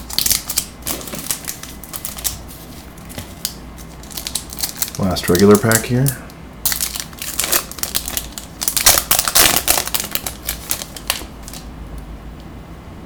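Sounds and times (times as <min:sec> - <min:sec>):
wrapper tearing and crinkling: 0:00.0 - 0:11.7.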